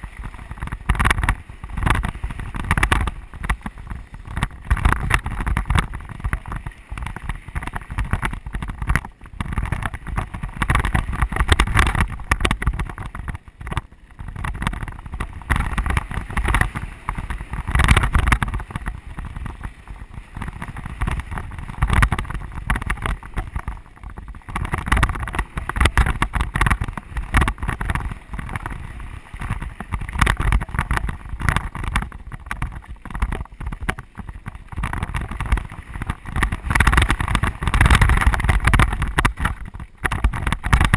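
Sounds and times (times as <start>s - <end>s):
mountain bike rumbling on dirt trail: 0.0s - 40.9s
wind buffeting microphone: 0.0s - 40.9s.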